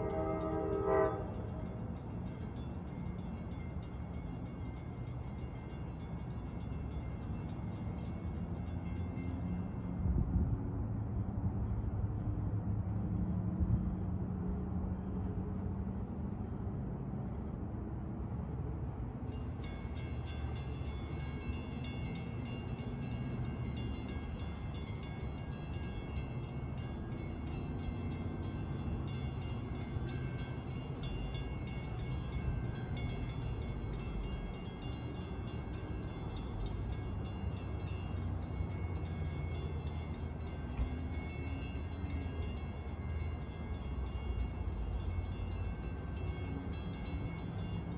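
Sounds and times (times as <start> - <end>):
metallic warning bell ringing: 0.0 - 10.2, 19.3 - 47.9
train rumbling: 0.0 - 47.9.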